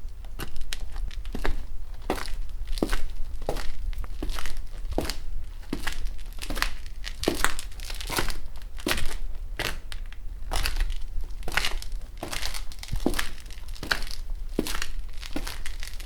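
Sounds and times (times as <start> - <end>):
hard heels walking on gritty concrete: 0.0 - 16.0.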